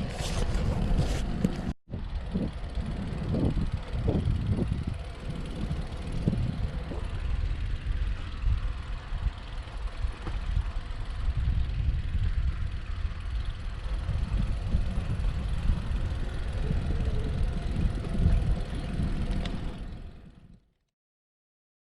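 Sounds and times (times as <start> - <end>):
wind buffeting microphone: 0.0 - 20.6.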